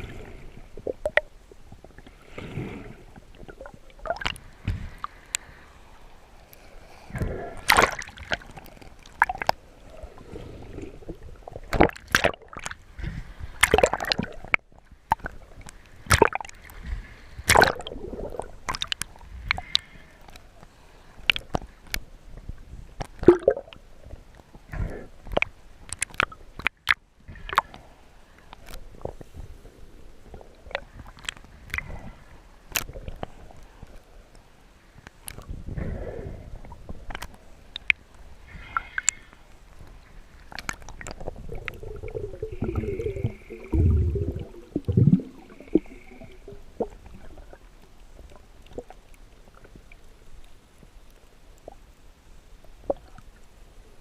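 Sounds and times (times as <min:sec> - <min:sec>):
water sloshing and gurgling: 0:00.0 - 0:51.0.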